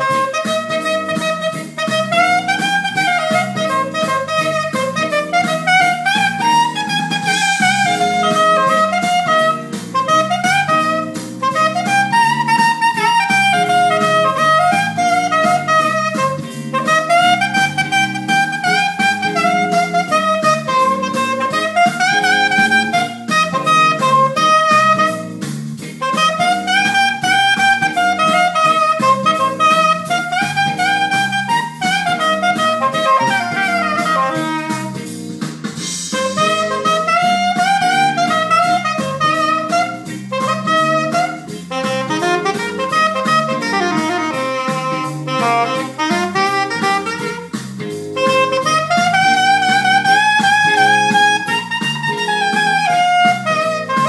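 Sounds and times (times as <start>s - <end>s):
soprano saxophone melody: 0.0s - 35.3s, 35.9s - 54.0s
bass: 0.0s - 54.0s
steady drum beat: 0.0s - 54.0s.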